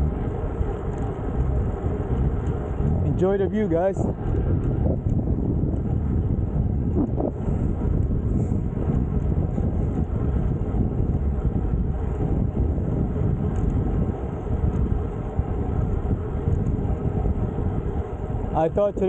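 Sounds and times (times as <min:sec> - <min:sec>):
wind rush on microphone: 0:00.0 - 0:19.0.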